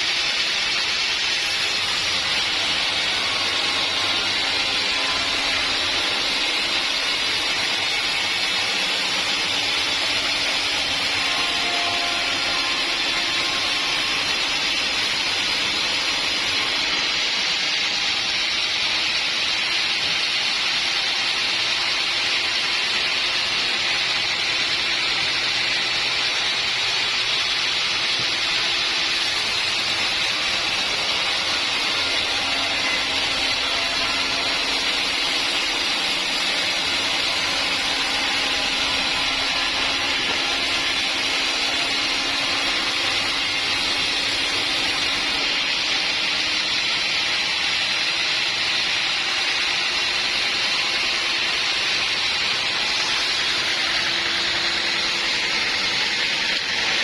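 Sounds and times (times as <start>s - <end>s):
sawmill blade cutting log: 0.0s - 57.0s.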